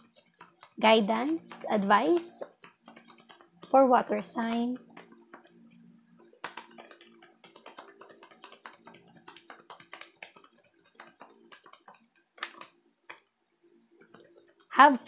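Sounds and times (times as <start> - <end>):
cards being shuffled: 0.0 - 5.6, 6.2 - 13.3.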